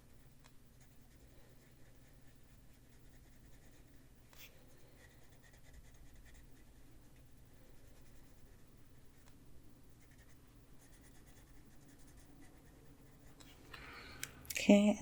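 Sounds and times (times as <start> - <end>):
colored pencil scratching on paper: 0.2 - 13.6.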